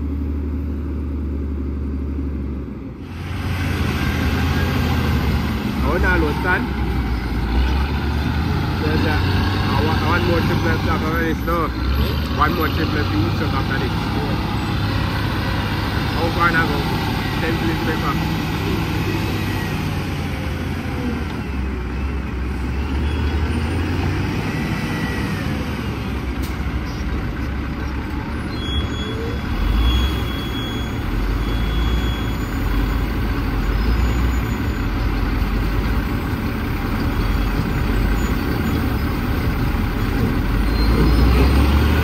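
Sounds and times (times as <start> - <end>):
wheel loader diesel engine: 0.0 - 42.0.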